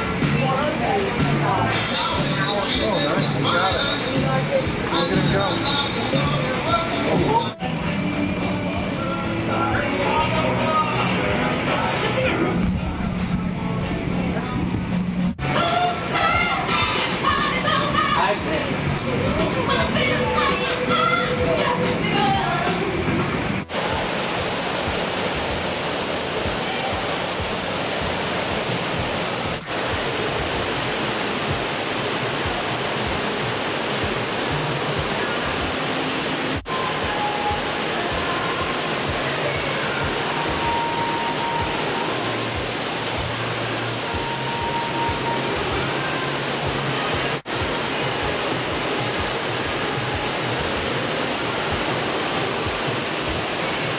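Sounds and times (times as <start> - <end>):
rush of pumped water: 0.0 - 53.9.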